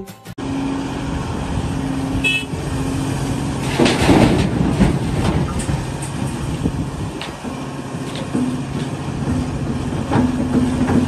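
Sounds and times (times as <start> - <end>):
excavator diesel engine running: 0.4 - 11.0.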